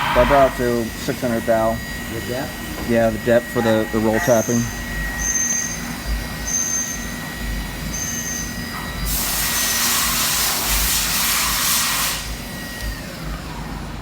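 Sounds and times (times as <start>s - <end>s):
loud even hiss: 0.0s - 13.6s
cnc machine whine and rumble: 0.0s - 14.0s.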